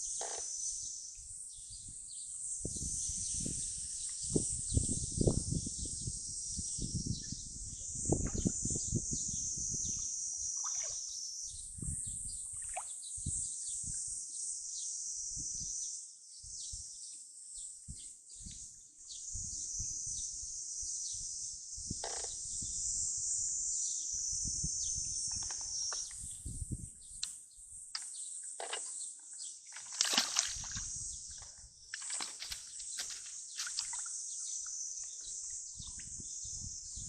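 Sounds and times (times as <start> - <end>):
insect chorus: 0.0 - 37.0.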